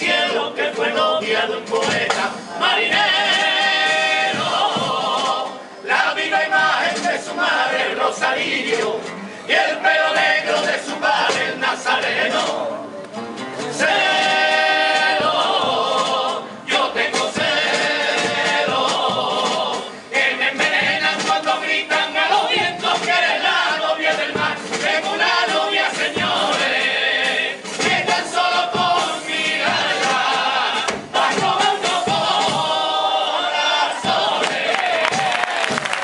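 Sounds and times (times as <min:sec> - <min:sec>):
men singing in chorus: 0:00.0 - 0:12.7, 0:13.8 - 0:35.8
guitars: 0:00.0 - 0:32.8.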